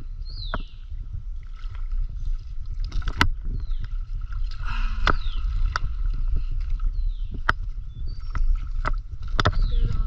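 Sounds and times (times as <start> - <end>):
low rumble of moving water: 0.0 - 10.0.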